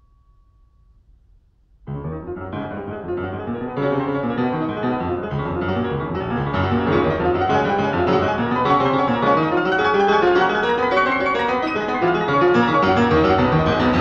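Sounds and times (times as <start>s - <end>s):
piano background music: 1.9s - 14.0s.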